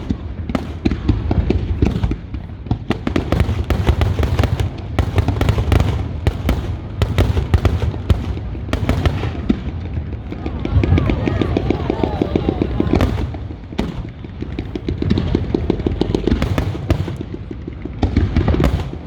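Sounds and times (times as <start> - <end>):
continuous low rumble: 0.0 - 19.0
fireworks cracks and booms: 0.0 - 19.0.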